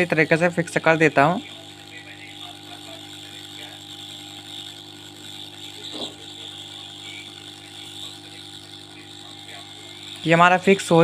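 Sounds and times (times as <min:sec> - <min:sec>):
hot-air station blowing: 0:00.0 - 0:11.0.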